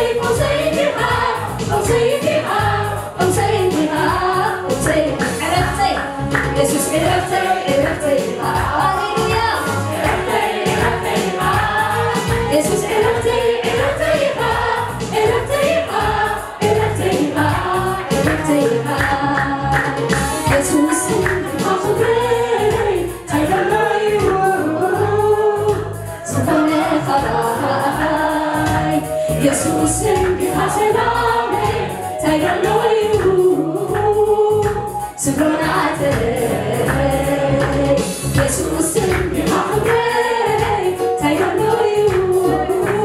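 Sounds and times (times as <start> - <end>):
choir of backing singers: 0.0 - 43.0
instrumental accompaniment: 0.0 - 43.0
woman singing lead: 0.0 - 43.0.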